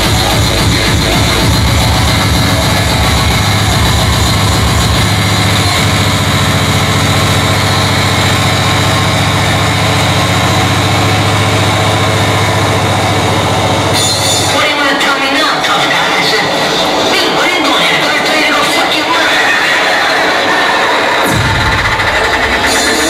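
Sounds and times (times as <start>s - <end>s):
speedcore music: 0.0s - 23.0s.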